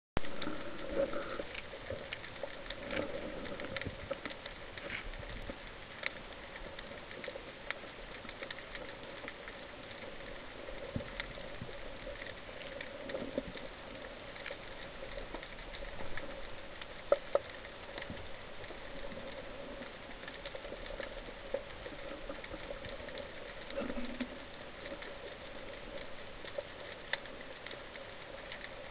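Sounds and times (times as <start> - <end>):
underwater crackling clicks: 0.2 - 28.9.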